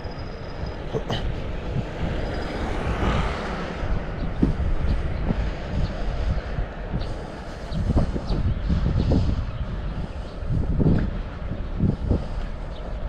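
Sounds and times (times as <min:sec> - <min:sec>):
vehicle passing: 0:00.0 - 0:13.0
wind rumbling on microphone: 0:00.0 - 0:13.0.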